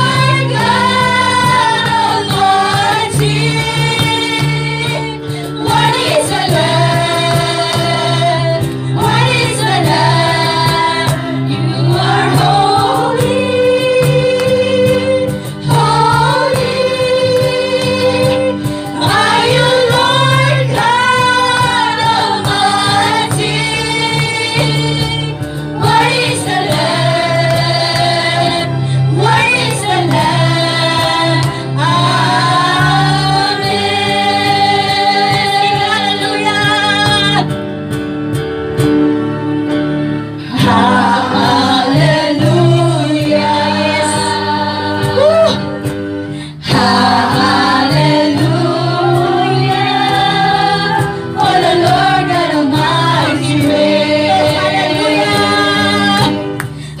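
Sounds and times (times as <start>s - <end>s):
other voices singing: 0.0s - 37.5s, 40.4s - 57.0s
woman singing into microphone: 0.0s - 37.6s, 40.4s - 57.0s.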